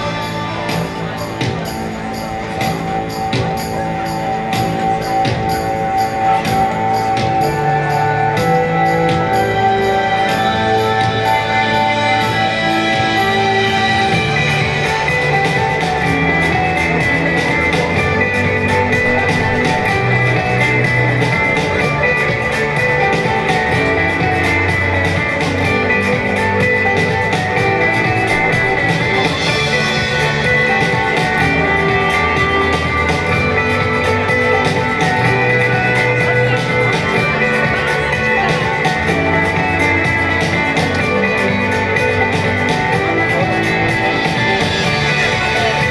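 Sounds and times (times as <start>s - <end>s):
rock music with guitar: 0.0s - 45.9s.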